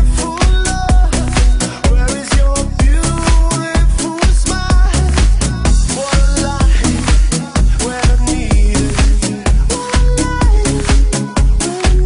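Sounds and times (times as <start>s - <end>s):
electronic dance music: 0.0s - 12.0s
kick drum beating: 0.0s - 12.0s.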